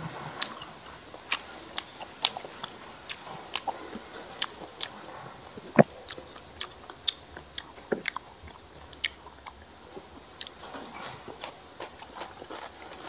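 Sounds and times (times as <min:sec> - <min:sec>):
chewing crispy fried pork: 0:00.0 - 0:13.0.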